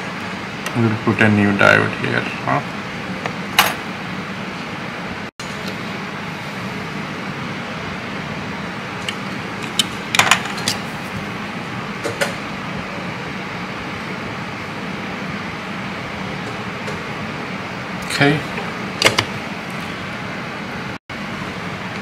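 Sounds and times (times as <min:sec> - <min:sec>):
steady hiss with low hum: 0:00.0 - 0:22.0.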